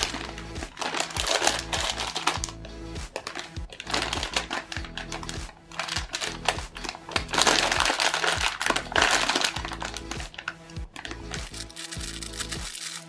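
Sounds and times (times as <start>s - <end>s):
background music: 0.0s - 13.0s
plastic bag crinkling: 0.0s - 13.0s.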